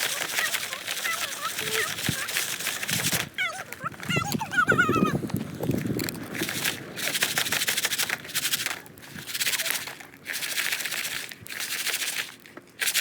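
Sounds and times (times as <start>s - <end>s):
popcorn rattling in shaken container: 0.0s - 13.0s.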